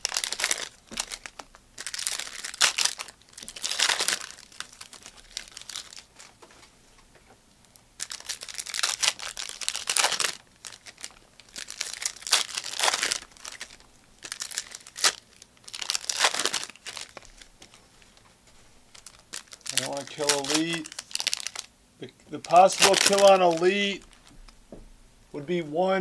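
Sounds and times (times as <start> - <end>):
wrappers crinkling and tearing: 0.0 - 6.4, 7.7 - 21.7, 22.3 - 24.3.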